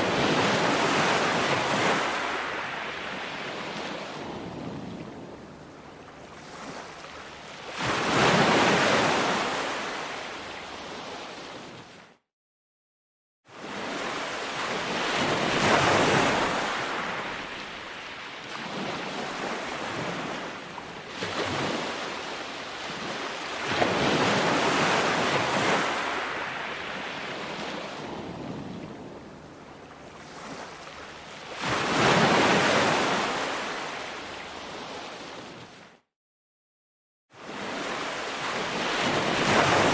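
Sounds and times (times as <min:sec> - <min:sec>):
ocean waves breaking on beach: 0:00.0 - 0:12.2, 0:13.5 - 0:36.0, 0:37.4 - 0:39.9.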